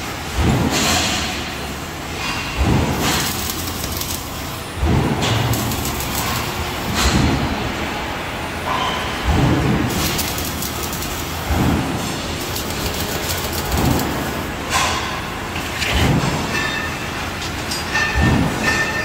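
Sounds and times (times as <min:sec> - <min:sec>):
machinery running: 0:01.5 - 0:18.7.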